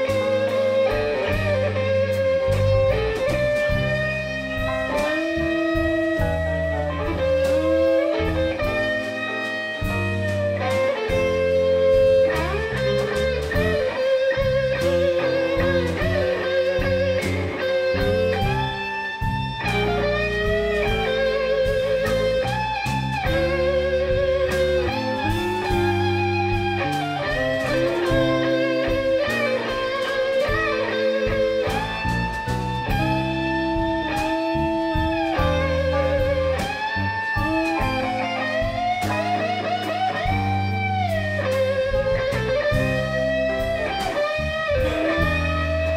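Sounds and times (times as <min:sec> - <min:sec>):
blues band playing: 0:00.0 - 0:45.9
electric guitar lead: 0:00.0 - 0:45.9.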